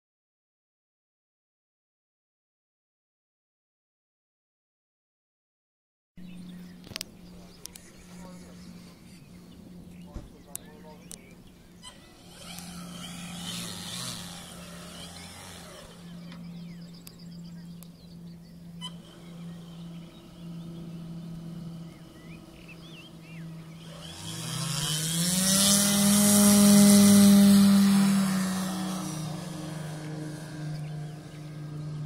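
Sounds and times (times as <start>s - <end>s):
model plane motor and propeller: 6.2s - 32.0s.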